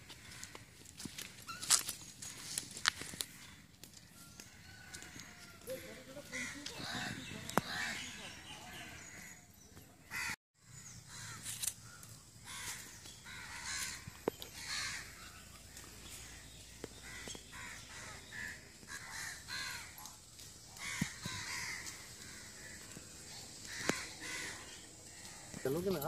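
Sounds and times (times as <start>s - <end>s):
crows cawing: 0.0s - 3.7s, 4.4s - 10.4s, 11.1s - 26.0s.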